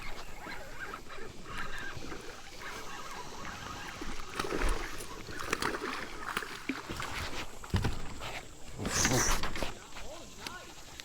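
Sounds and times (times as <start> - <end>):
water splashing around a kayak: 0.0 - 11.0.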